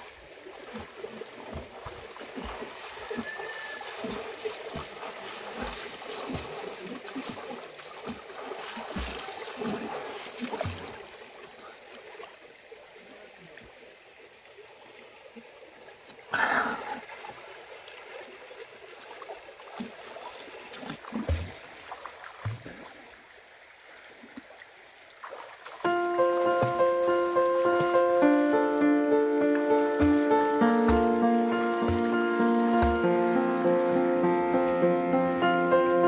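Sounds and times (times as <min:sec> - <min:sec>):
water splashing and trickling: 0:00.0 - 0:34.9.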